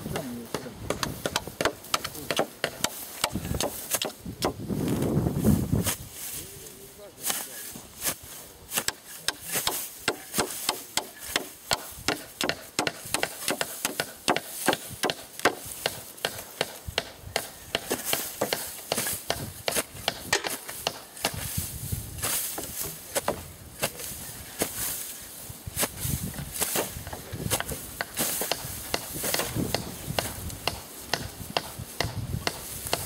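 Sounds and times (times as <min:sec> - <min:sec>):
digging tool chopping into soil: 0:00.1 - 0:04.6, 0:07.2 - 0:25.1, 0:25.8 - 0:33.0.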